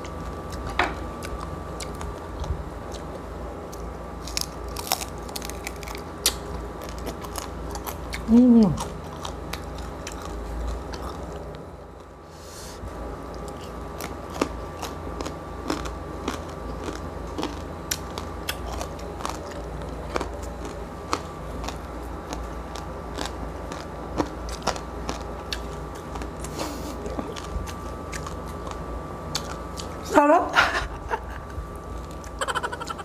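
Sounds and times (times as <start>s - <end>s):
chewing crispy pork skin: 0.0s - 12.3s, 12.9s - 30.2s, 30.8s - 33.0s.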